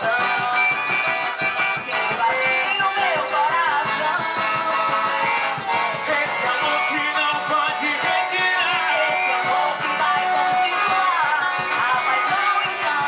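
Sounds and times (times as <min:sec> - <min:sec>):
upbeat folk dance music: 0:00.0 - 0:13.0.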